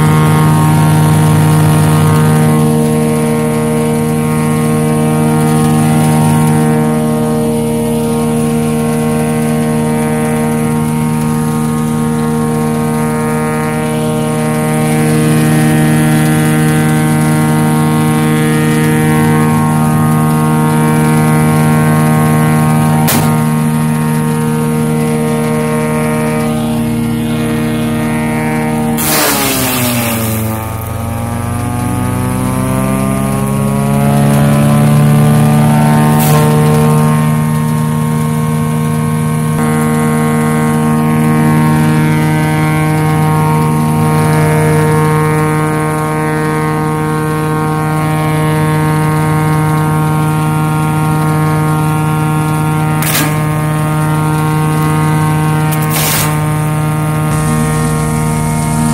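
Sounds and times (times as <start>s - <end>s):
sharp burst of noise: 0.0s - 31.3s, 36.2s - 58.9s
wood chipper engine running: 0.0s - 58.9s.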